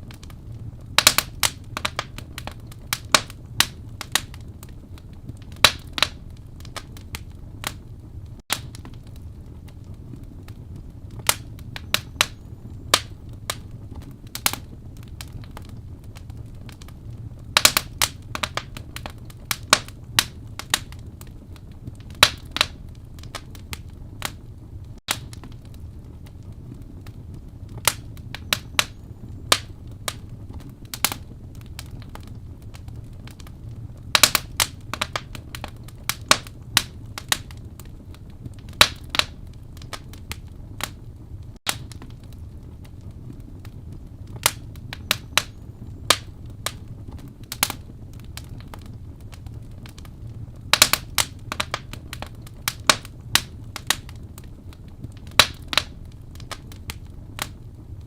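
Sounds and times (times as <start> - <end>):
low rumble of burning: 0.0 - 58.0
wood fire crackling: 0.0 - 58.0.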